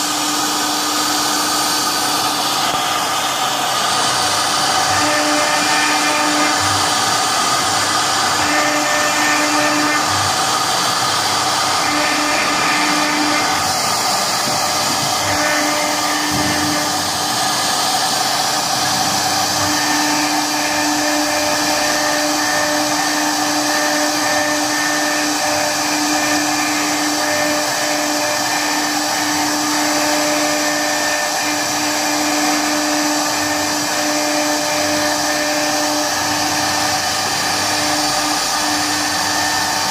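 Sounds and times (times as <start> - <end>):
router cutting into board: 0.0 - 39.9
router spindle whine: 0.0 - 39.9.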